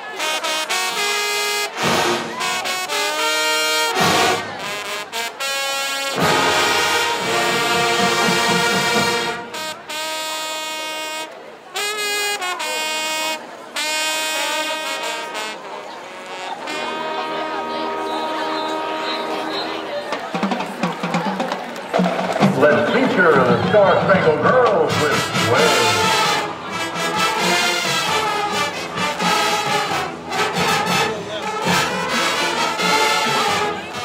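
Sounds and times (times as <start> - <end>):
brass band sustained chords: 0.0 - 20.8, 22.0 - 34.0.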